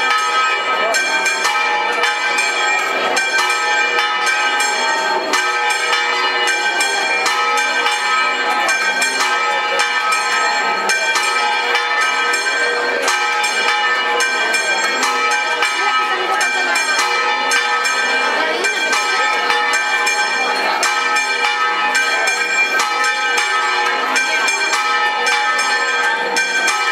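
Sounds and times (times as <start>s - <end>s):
church bells pealing: 0.0s - 26.9s.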